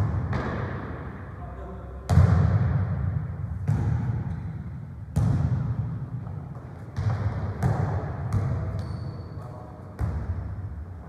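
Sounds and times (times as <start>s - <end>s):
ball thuds echoing in hall: 0.0s - 11.0s.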